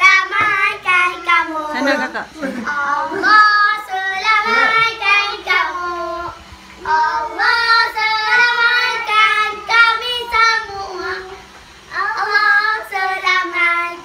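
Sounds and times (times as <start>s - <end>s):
children singing: 2.6s - 14.0s.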